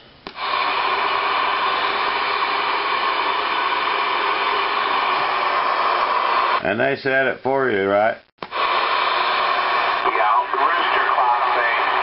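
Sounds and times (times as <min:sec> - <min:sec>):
radio static hiss: 0:00.3 - 0:12.0.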